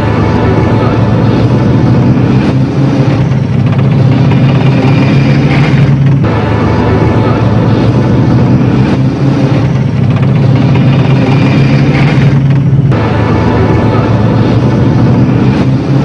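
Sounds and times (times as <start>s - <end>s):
military vehicle engines: 0.0s - 16.0s.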